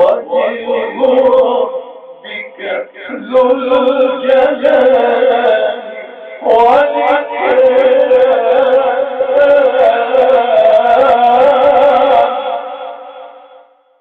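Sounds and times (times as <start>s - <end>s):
man chanting a long note: 0.0s - 13.7s.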